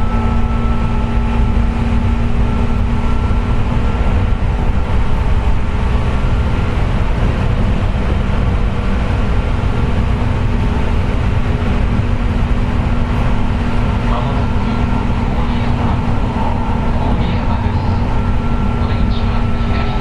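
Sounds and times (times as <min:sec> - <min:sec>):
constant whine: 0:00.0 - 0:20.0
train wheels rumbling on rails: 0:00.0 - 0:20.0.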